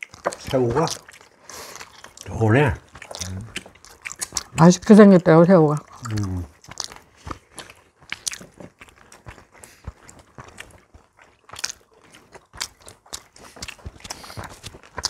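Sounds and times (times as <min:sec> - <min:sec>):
people chewing and crunching: 0:00.0 - 0:15.0.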